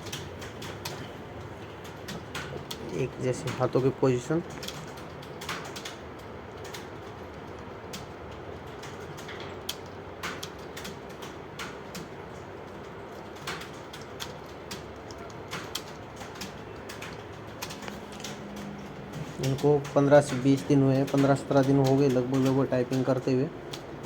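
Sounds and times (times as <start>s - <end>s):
background hum: 0.0s - 24.0s
computer keyboards clicking: 0.0s - 24.0s.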